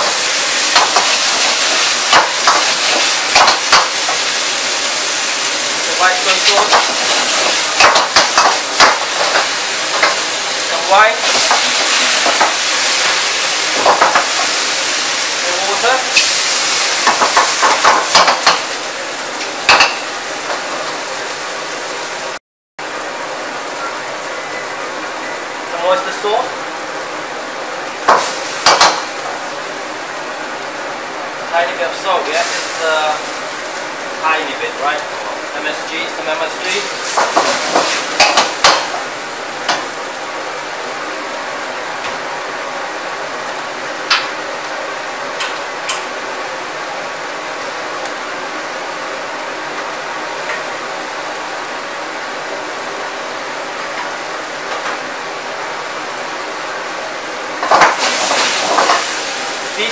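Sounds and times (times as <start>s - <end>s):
gas burner rushing: 0.0s - 22.4s, 25.6s - 59.9s
food sizzling in a wok: 0.0s - 26.2s, 28.0s - 29.9s, 32.2s - 41.9s, 45.7s - 59.9s.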